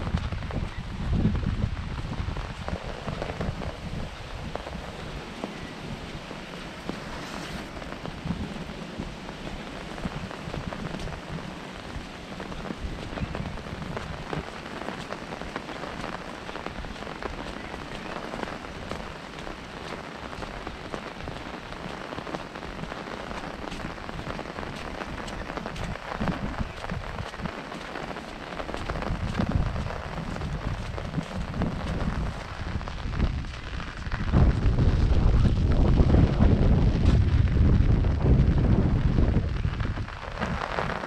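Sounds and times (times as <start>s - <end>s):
rain pattering on an umbrella: 0.0s - 41.0s
wind buffeting microphone: 0.0s - 41.0s.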